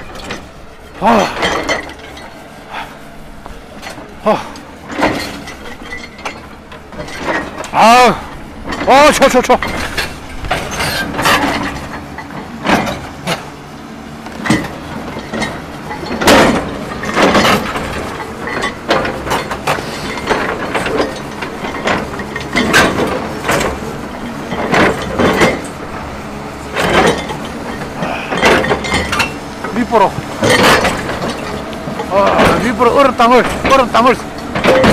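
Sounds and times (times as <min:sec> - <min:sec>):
excavator engine running: 0:00.0 - 0:34.9.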